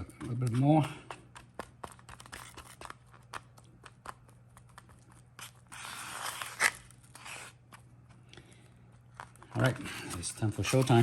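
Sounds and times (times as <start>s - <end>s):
scraping while mixing adhesive: 0.0s - 11.0s.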